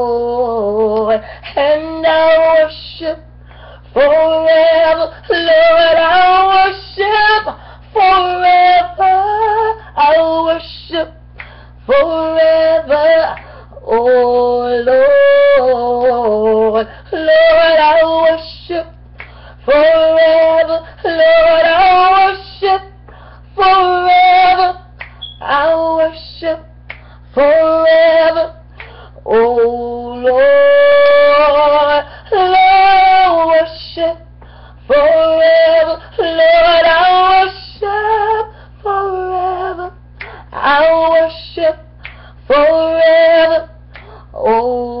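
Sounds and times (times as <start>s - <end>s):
woman singing unaccompanied: 0.0s - 19.0s, 19.6s - 45.0s
low electrical hum: 0.0s - 45.0s.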